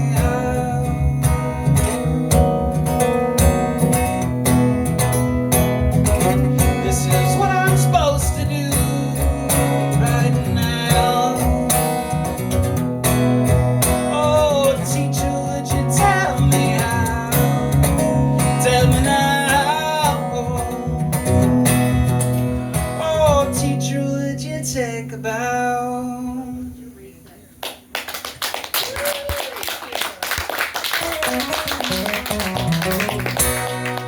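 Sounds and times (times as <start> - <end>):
strummed acoustic guitar: 0.0 - 26.8, 31.0 - 34.0.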